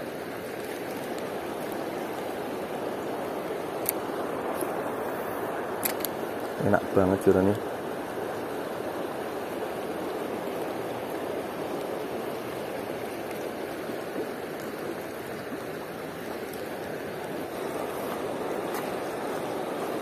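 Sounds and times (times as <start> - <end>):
river flowing over cobbles: 0.0 - 20.0.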